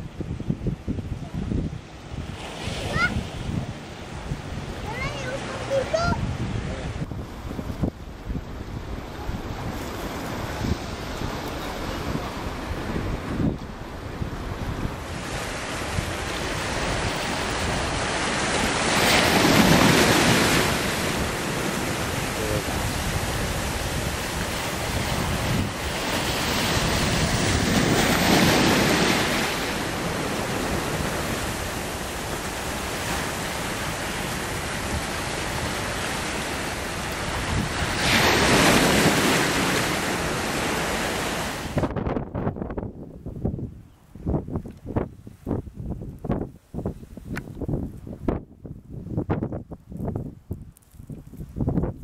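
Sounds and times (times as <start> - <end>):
waves breaking on shore: 0.0 - 42.6
wind buffeting microphone: 0.0 - 52.0.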